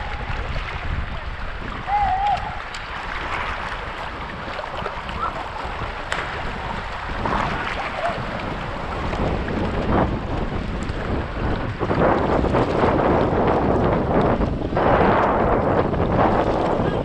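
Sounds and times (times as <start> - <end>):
paddle strokes splashing: 0.0 - 17.0
water sloshing along hull: 0.0 - 17.0
wind buffeting microphone: 0.0 - 17.0.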